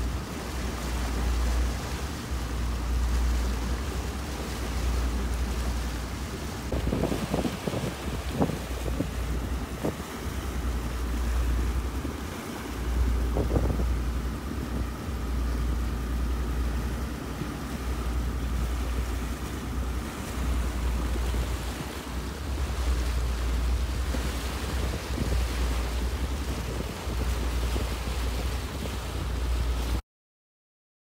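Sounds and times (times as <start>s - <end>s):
boat engine drone: 0.0s - 30.0s
rush of boat wake: 0.0s - 30.0s
wind buffeting microphone: 0.0s - 30.0s.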